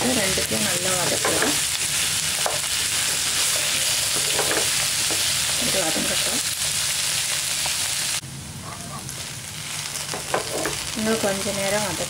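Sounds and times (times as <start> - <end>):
vegetables sizzling in hot oil: 0.0 - 8.2, 8.8 - 12.0.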